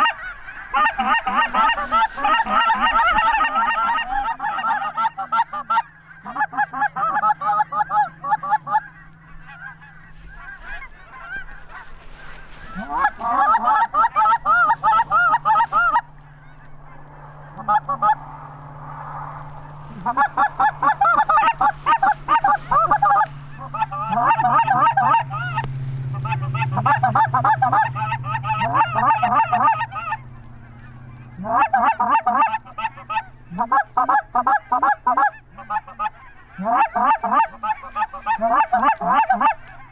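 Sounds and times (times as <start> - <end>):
geese honking and clucking: 0.0 - 39.9
low steady hum: 0.0 - 39.9.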